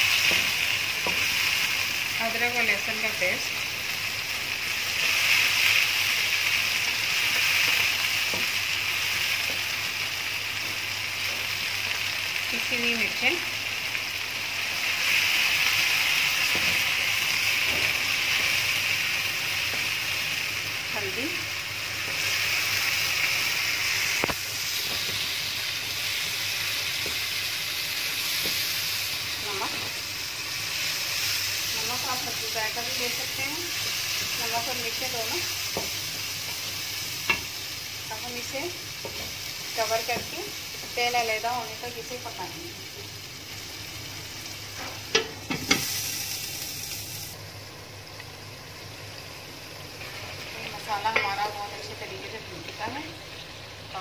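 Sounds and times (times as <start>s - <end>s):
vegetables sizzling in a wok: 0.0s - 54.0s.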